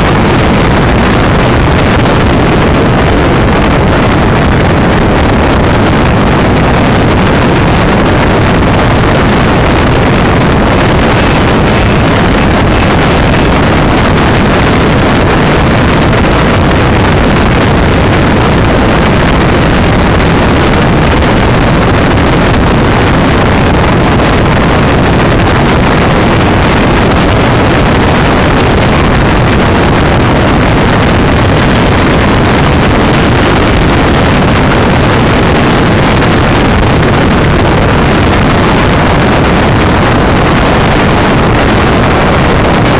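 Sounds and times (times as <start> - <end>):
wind rushing on microphone: 0.0 - 42.9.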